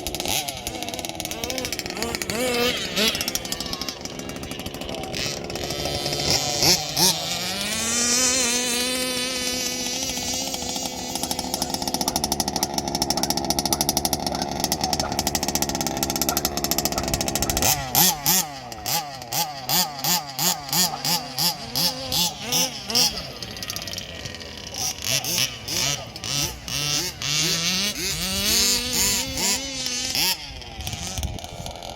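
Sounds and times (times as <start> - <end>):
two-stroke engine revving: 0.0 - 31.9.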